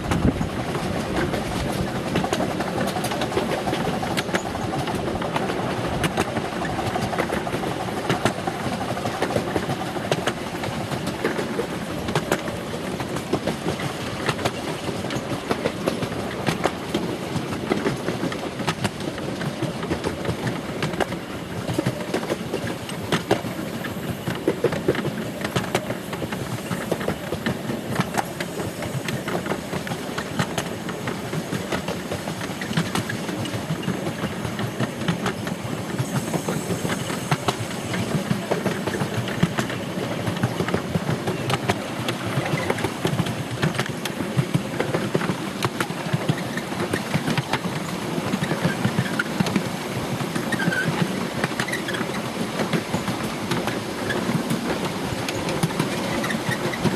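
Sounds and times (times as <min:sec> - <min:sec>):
miniature train rumbling: 0:00.0 - 0:56.9
wheels clicking over rail joints: 0:00.0 - 0:56.9.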